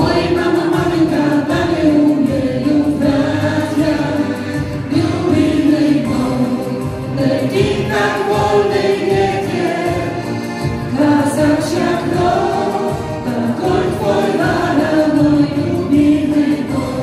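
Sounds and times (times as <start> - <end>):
musical accompaniment: 0.0 - 17.0
vocal ensemble singing: 0.0 - 17.0.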